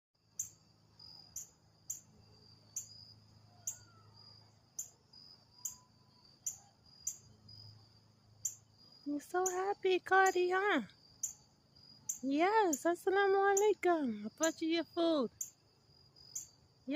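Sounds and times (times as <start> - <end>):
cricket trill: 0.2 - 16.9.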